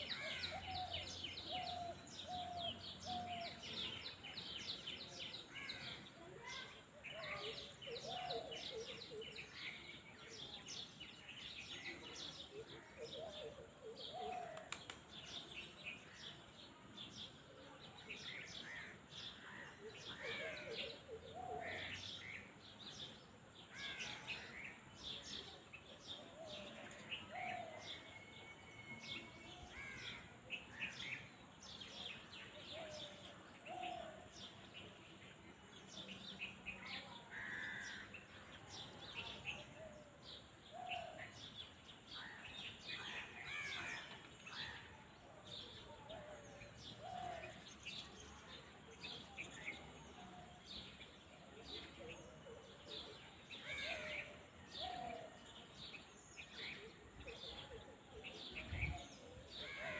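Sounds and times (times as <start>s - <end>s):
faint outdoor background noise: 0.0s - 59.9s
small birds chirping and trilling: 0.0s - 59.9s.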